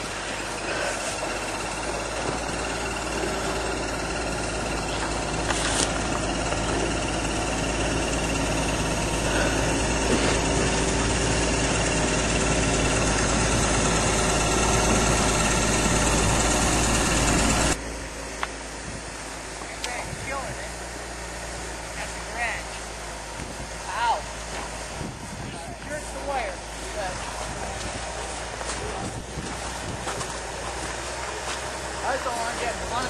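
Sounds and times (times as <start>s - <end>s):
tracked vehicle engine running: 0.0s - 33.0s.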